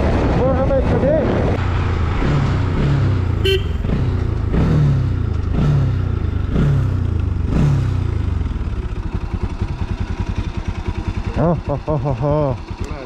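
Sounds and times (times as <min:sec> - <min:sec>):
motorcycle engine revving: 0:01.6 - 0:13.0.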